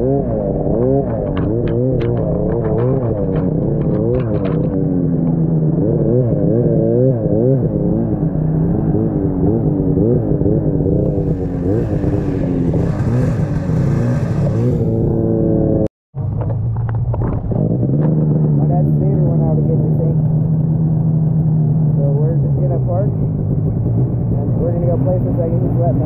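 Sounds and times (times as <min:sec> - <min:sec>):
snowmobile engine revving: 0:00.0 - 0:15.9, 0:17.5 - 0:26.0.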